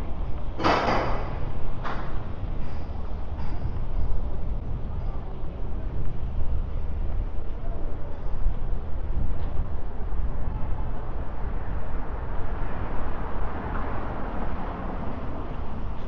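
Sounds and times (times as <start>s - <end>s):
road noise: 0.0s - 16.0s
vehicle engine rumble: 0.0s - 16.0s.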